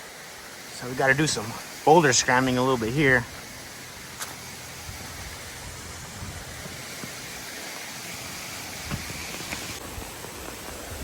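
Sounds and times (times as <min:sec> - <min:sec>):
water rushing over small cascades: 0:00.0 - 0:11.0.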